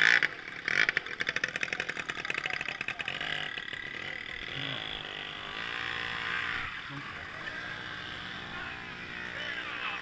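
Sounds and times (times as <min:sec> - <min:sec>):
moped engines revving: 0:00.0 - 0:10.0.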